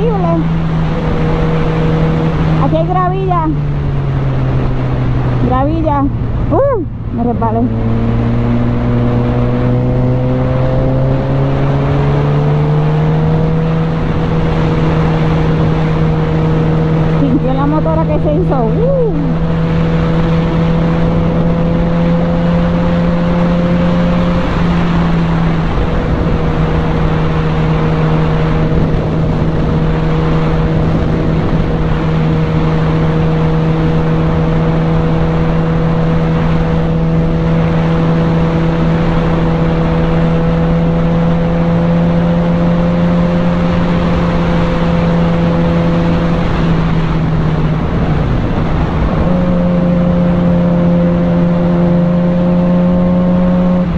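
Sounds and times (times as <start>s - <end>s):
motorcycle engine running: 0.0s - 53.9s
road noise: 0.0s - 53.9s.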